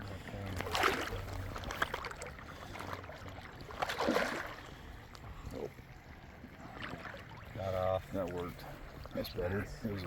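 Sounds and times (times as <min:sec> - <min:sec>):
water splashing at shoreline: 0:00.0 - 0:10.0.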